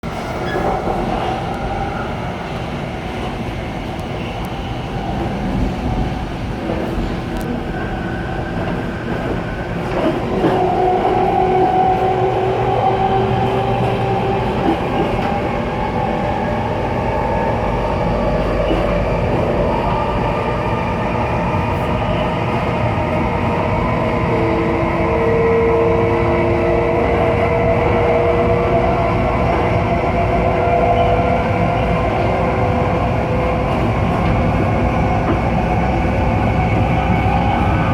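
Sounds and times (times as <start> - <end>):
train running rumble: 0.0 - 37.9.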